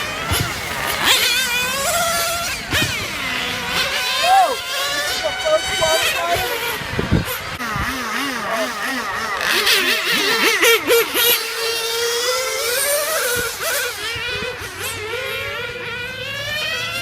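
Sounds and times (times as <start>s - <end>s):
rc car engines revving: 0.0s - 17.0s.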